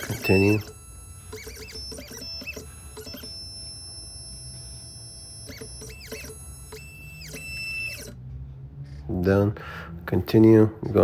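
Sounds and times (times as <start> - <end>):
machine motors whining: 0.0 - 9.0.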